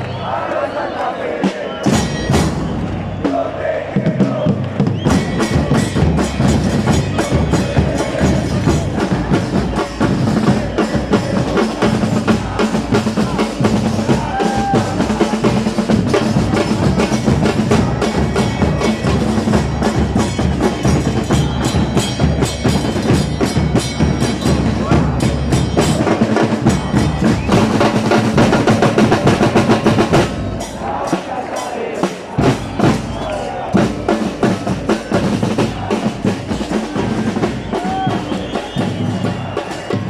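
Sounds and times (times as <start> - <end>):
crowd chanting in unison: 0.0 - 40.0
bass drums beating: 1.9 - 31.5, 32.4 - 40.0.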